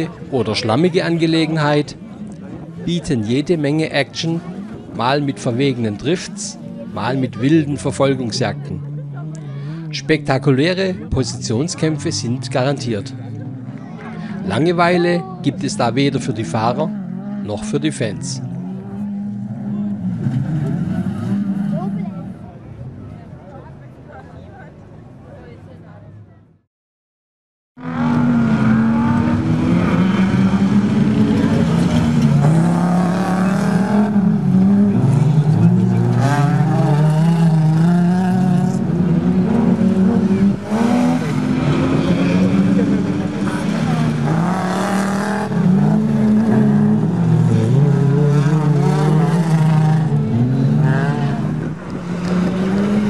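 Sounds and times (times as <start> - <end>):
race car engines running hard: 0.0 - 25.4, 27.8 - 53.0.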